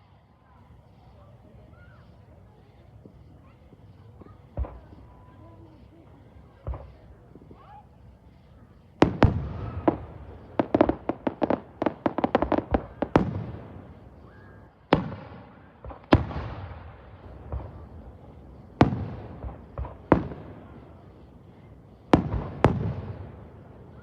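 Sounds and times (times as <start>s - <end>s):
fireworks crackling pops: 0.0s - 24.0s
fireworks bangs: 0.6s - 24.0s.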